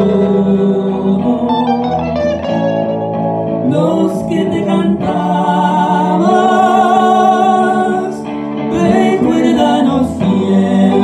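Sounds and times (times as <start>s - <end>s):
man singing: 0.0s - 2.5s, 3.6s - 11.0s
electric guitar: 0.0s - 11.0s.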